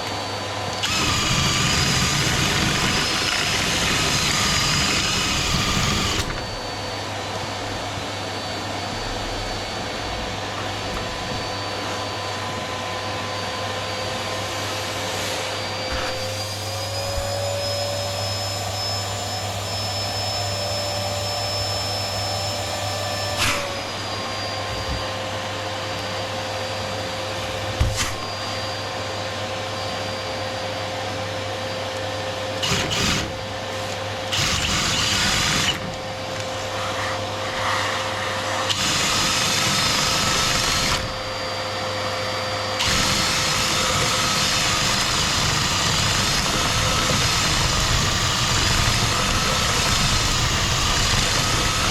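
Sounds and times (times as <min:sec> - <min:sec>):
vacuum cleaner motor whine: 0:00.0 - 0:51.9.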